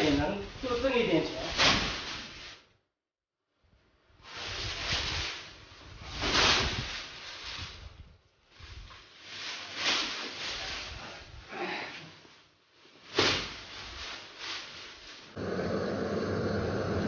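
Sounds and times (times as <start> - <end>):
plastic bags rustling: 0.0 - 2.7, 4.1 - 15.4.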